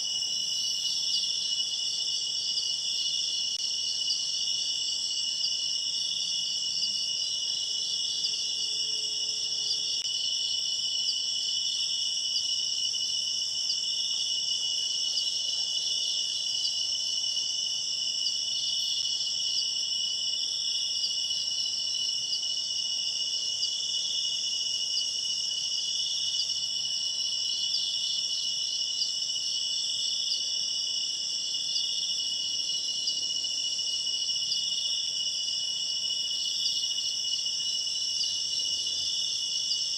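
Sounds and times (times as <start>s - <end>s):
crickets and night insects trilling: 0.0s - 39.9s.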